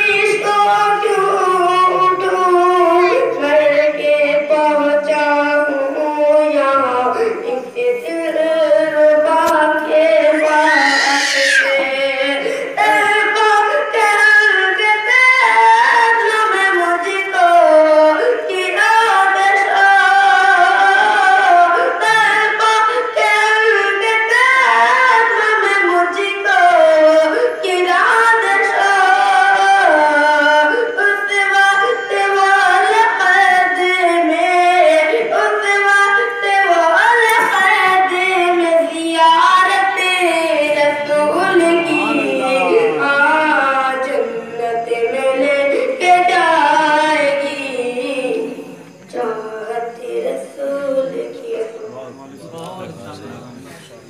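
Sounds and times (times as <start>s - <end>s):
person singing unaccompanied: 0.0s - 53.7s.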